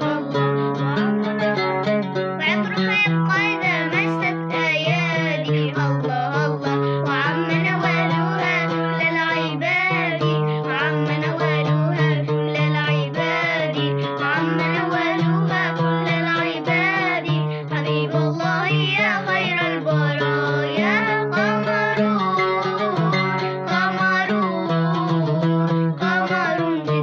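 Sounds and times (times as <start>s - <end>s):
plucked string instrument: 0.0s - 27.0s
girls singing together: 2.6s - 27.0s.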